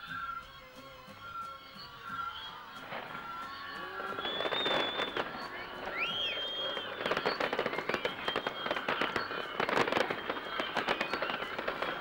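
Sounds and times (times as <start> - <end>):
fireworks crackling and popping: 1.8 - 12.0.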